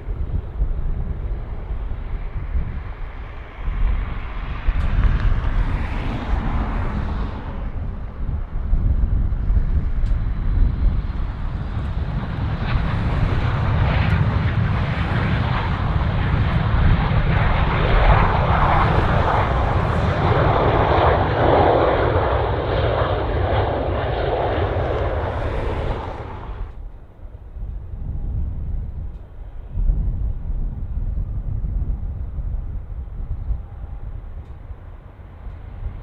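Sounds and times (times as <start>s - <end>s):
jet engines roaring: 0.0s - 29.8s, 32.9s - 36.0s.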